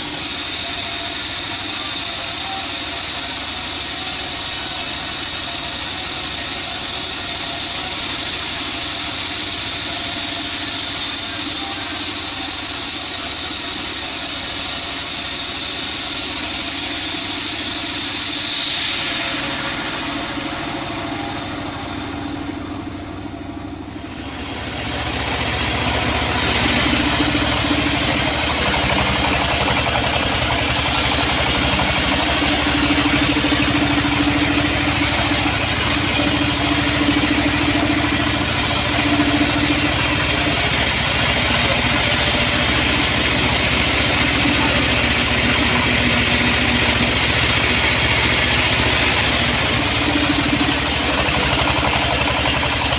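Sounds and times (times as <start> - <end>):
sawmill bandsaw running: 0.0 - 52.9.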